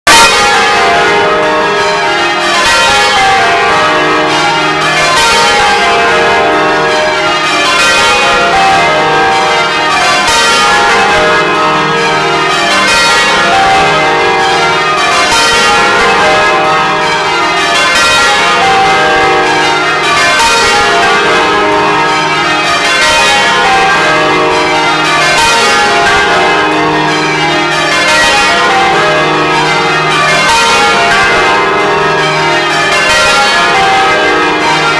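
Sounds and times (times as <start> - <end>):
church bells change ringing: 0.0 - 34.9.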